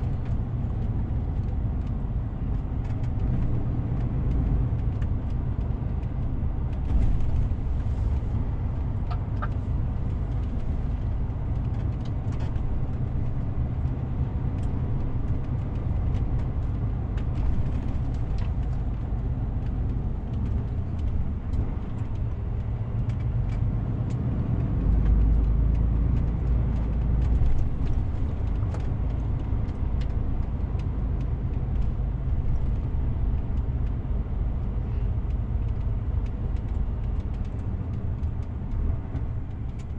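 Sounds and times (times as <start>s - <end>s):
deep low rumble: 0.0s - 39.9s
truck engine and road rumble: 0.0s - 39.9s.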